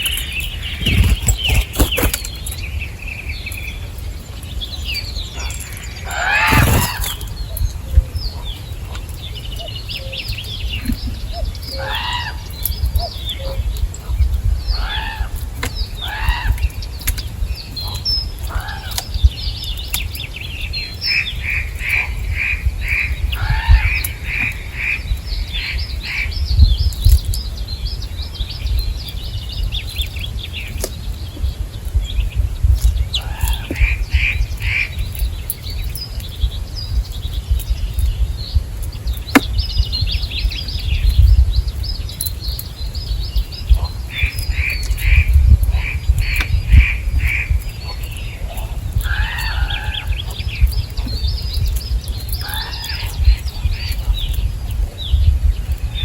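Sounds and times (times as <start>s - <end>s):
birds calling and chirping: 0.0s - 56.0s.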